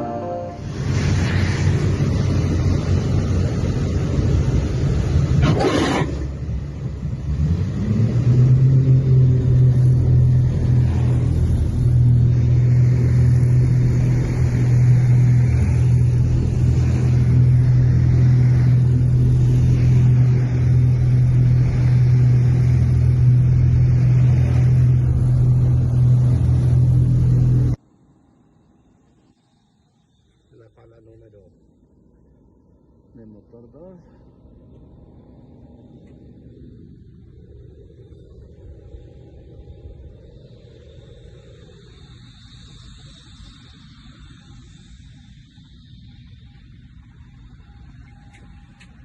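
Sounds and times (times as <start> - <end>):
aircraft engine droning: 0.0 - 49.0.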